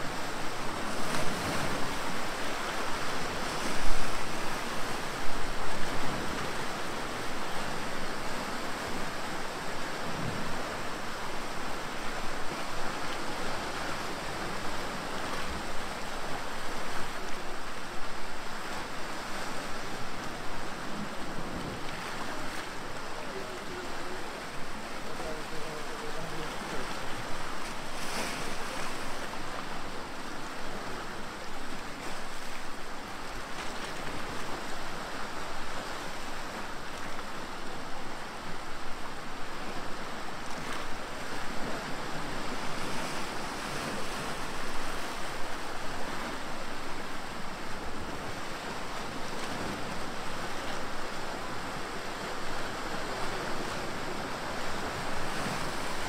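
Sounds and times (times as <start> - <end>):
waves splashing against rocks: 0.0 - 56.0.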